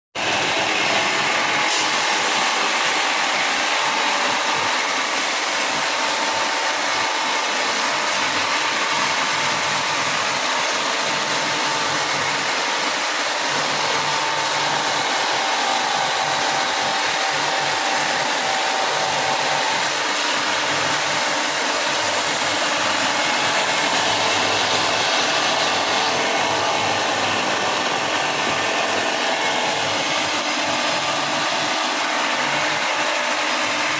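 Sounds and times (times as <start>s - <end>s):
belt sanding machine sanding metal: 0.2s - 33.9s.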